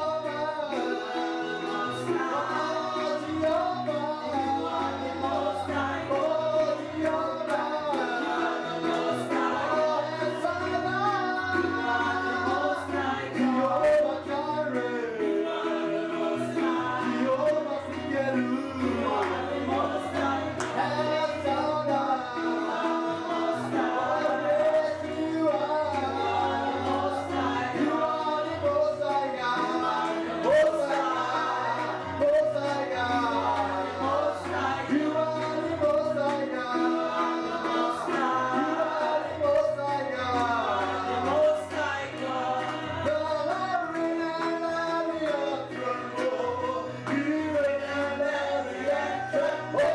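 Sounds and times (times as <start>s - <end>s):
held keyboard chords: 0.0s - 49.9s.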